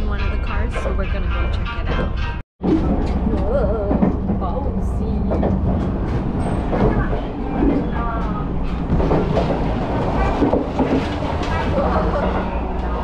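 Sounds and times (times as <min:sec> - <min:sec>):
train carriage rumble: 0:00.0 - 0:13.0
knocks and rattles: 0:01.9 - 0:13.0.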